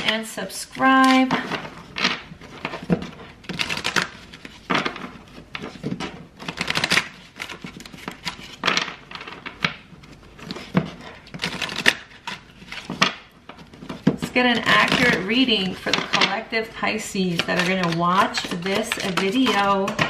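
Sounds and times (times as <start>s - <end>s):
cards being shuffled: 0.0s - 16.3s.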